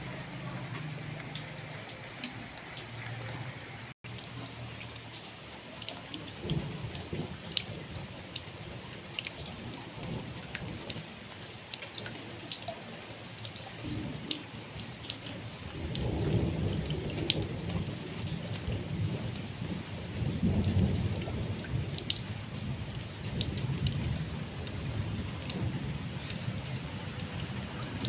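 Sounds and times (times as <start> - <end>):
sharp water drips: 0.0 - 28.0
steady rain: 0.0 - 28.0.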